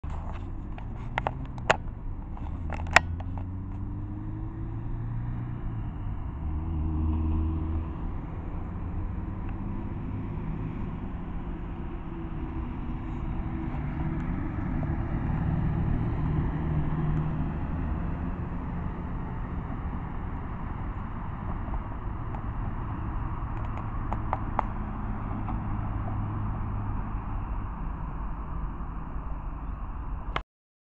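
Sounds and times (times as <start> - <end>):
truck passing: 0.0 - 30.3
road traffic passing: 0.0 - 30.4.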